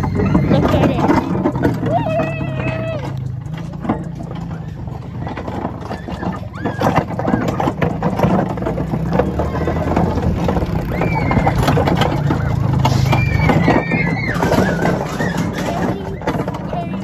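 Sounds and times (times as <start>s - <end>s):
atv engine rumbling: 0.0s - 17.0s
barrel carts clattering: 0.0s - 17.0s.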